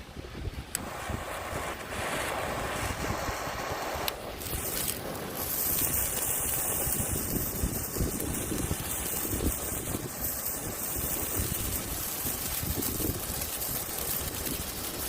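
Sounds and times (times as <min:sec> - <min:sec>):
wind rumble on microphone: 0:00.0 - 0:15.0
firework spraying sparks hiss: 0:00.4 - 0:15.0.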